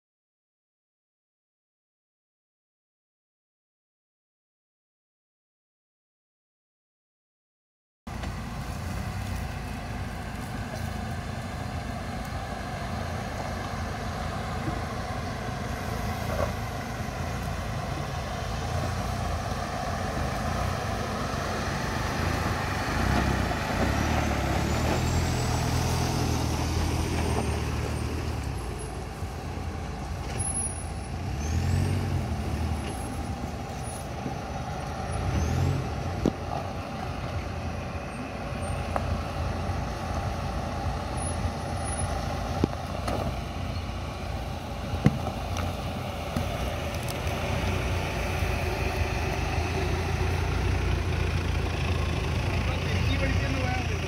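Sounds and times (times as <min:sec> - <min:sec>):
off-road vehicle engines: 0:08.1 - 0:54.0.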